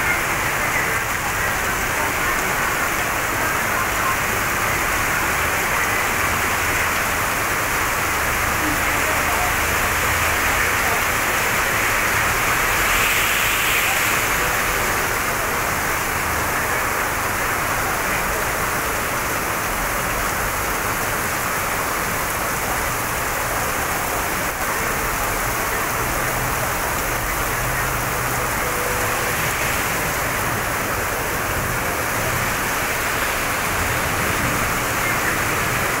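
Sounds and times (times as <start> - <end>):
heavy rain on wet road: 0.0 - 36.0.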